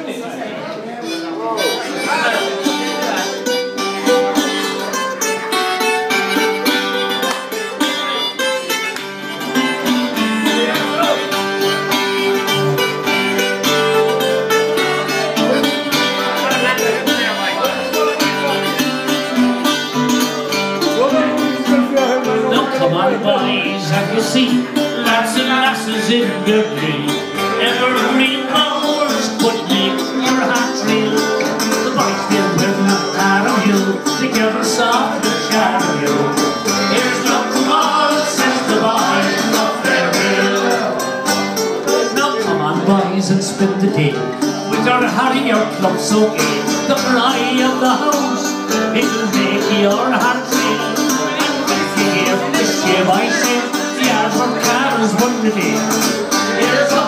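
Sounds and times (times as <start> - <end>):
acoustic guitar strumming: 0.0 - 57.0
plucked banjo: 0.0 - 57.0.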